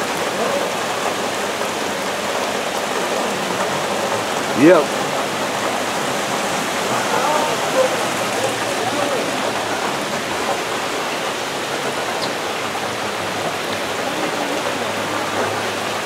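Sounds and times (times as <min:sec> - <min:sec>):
rushing floodwater and rain hiss: 0:00.0 - 0:16.0.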